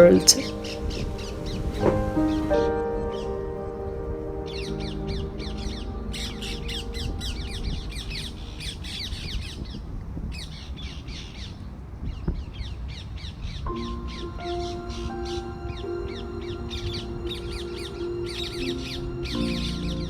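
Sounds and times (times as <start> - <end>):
background music of held chords: 0.0 - 9.8, 13.7 - 20.0
birds chirping: 0.0 - 20.0.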